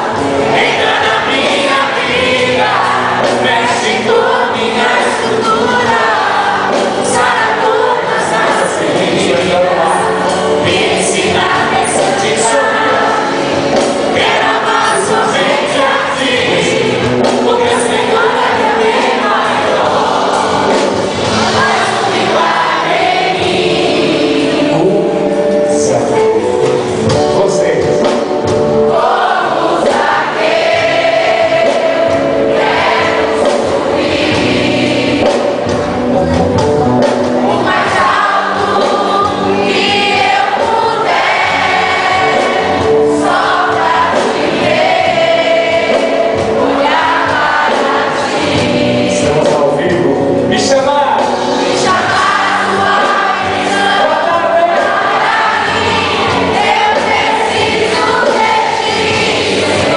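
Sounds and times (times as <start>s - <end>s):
band accompaniment: 0.0s - 59.9s
choir singing a hymn: 0.0s - 59.9s.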